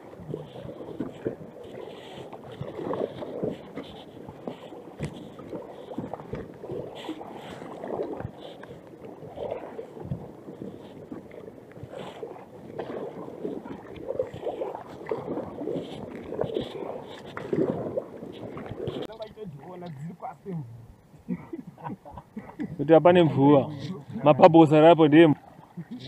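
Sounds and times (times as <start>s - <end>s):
paddle splashing in water: 0.0s - 19.9s, 23.4s - 26.0s.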